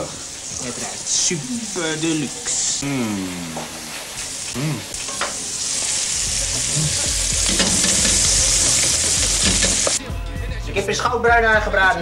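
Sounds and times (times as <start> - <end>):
chicken sizzling in butter: 0.0 - 10.0.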